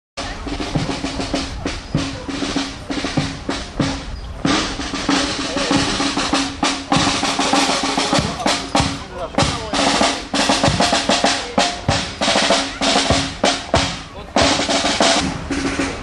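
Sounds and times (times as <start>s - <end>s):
bass drum beats: 0.2s - 16.0s
snare drum strokes and rolls: 0.2s - 16.0s.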